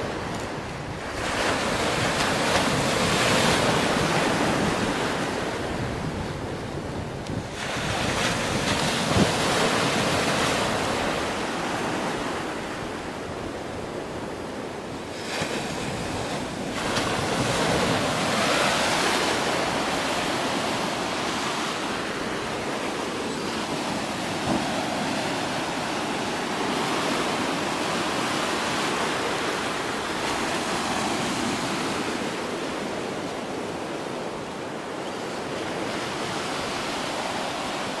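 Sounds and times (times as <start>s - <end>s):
waves breaking on beach: 0.0s - 38.0s
wind buffeting microphone: 0.0s - 38.0s.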